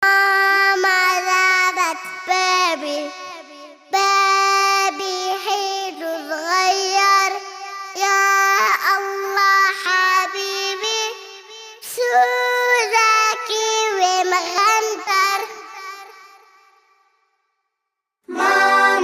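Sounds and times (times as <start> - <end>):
child singing: 0.0 - 16.5, 18.3 - 19.0.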